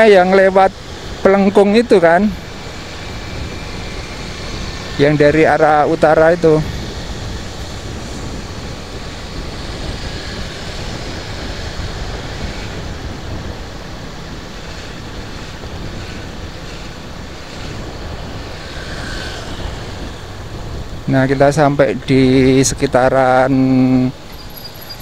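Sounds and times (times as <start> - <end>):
vehicle road noise: 0.0 - 25.0
wind on microphone: 0.6 - 22.9.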